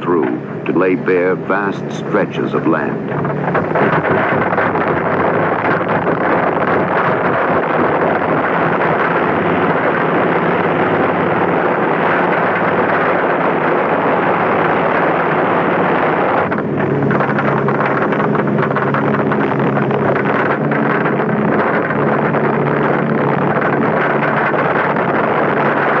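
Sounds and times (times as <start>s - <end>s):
aircraft engine hum: 0.0s - 26.0s
rushing air: 0.0s - 26.0s.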